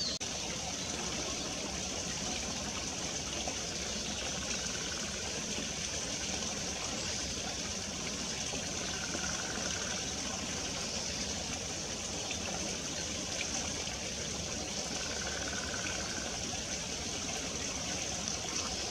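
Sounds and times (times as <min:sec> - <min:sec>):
brook flowing and trickling: 0:00.0 - 0:18.9.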